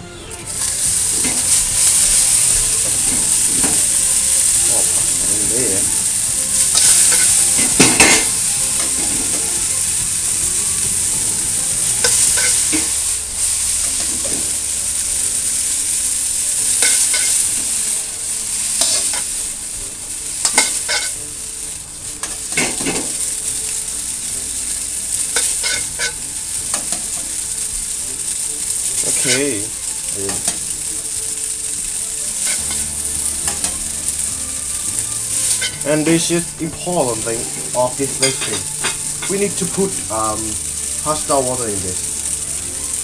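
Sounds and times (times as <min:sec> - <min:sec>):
pasta sizzling in a pan: 0:00.0 - 0:43.0
utensil scraping and clinking: 0:00.4 - 0:43.0.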